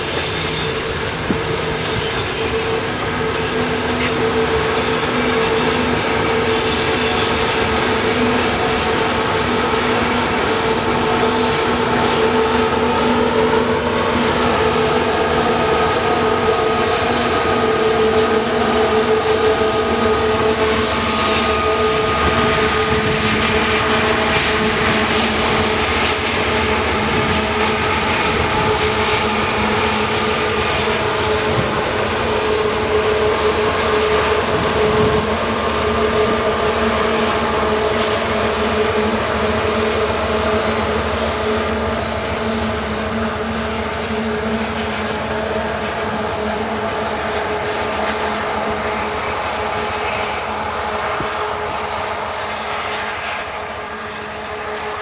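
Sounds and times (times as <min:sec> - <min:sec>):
diesel locomotive engine droning: 0:00.0 - 0:55.0.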